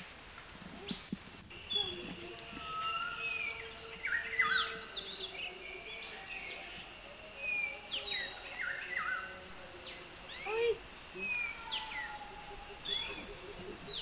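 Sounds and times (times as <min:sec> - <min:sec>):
high insect drone: 0:00.0 - 0:14.0
birds chirping and whistling: 0:00.9 - 0:10.6, 0:11.2 - 0:14.0.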